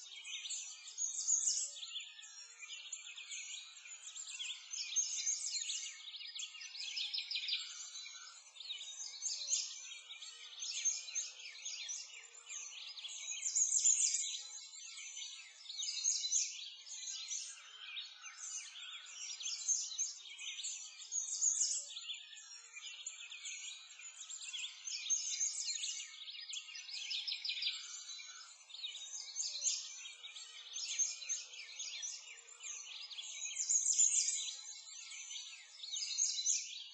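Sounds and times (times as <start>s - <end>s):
birds chirping and trilling: 0.0s - 36.9s.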